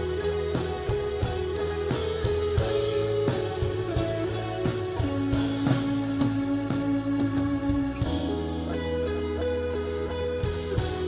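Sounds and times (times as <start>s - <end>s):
drum kit beat: 0.0s - 11.0s
live rock band playing: 0.0s - 11.0s.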